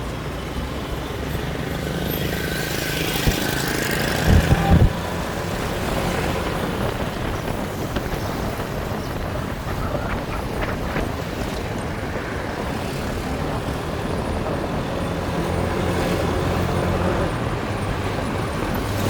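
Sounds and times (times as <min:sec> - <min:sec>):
road noise: 0:00.0 - 0:19.0
wind noise: 0:00.0 - 0:19.0
motorbike engine running: 0:00.6 - 0:19.0.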